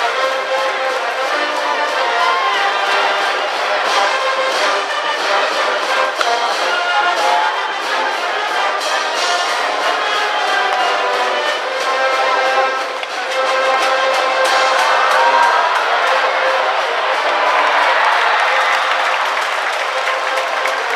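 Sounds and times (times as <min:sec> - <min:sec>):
brass band playing: 0:00.0 - 0:20.9.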